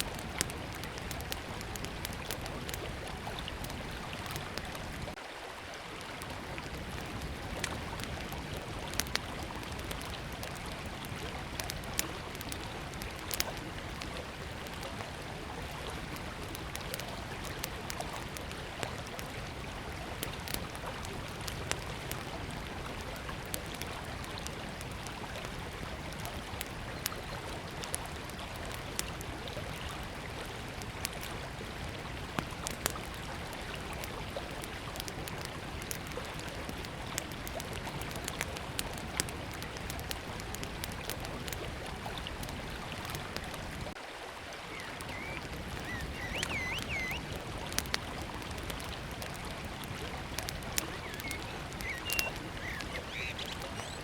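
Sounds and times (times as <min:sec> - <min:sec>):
campfire crackling: 0:00.0 - 0:54.0
river flowing: 0:00.0 - 0:54.0.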